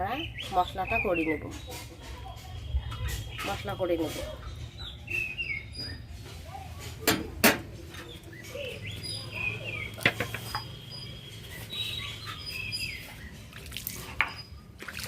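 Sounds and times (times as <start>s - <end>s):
small birds chirping: 0.0s - 7.0s, 7.7s - 15.0s.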